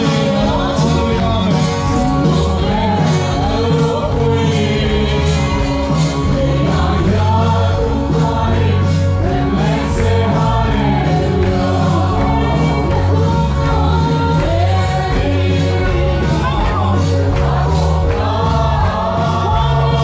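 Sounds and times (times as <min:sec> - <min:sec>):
choir singing gospel song: 0:00.0 - 0:20.0
instrumental backing: 0:00.0 - 0:20.0
steady drum beat: 0:00.0 - 0:20.0.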